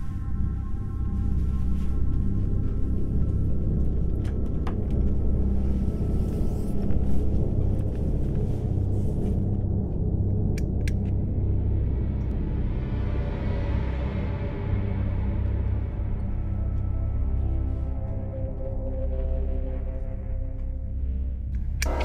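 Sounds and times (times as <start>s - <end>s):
deep low rumbling drone: 0.0s - 22.0s.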